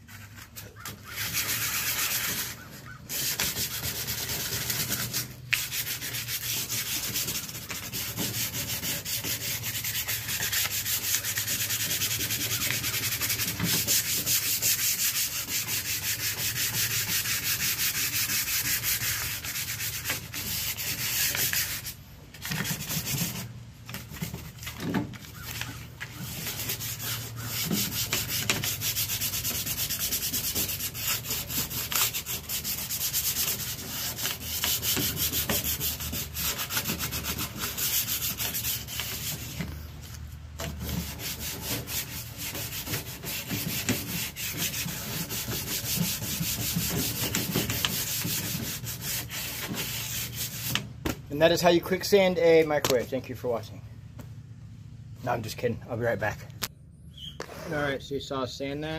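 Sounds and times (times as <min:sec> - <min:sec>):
sandpaper scratching on metal: 0:00.0 - 0:39.8, 0:40.6 - 0:50.8.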